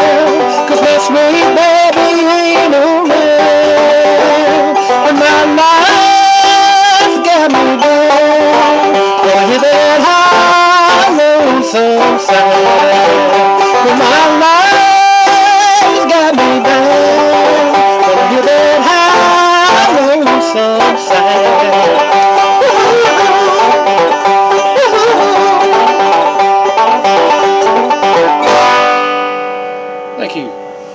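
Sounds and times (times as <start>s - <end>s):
bluegrass banjo music: 0.0s - 30.9s.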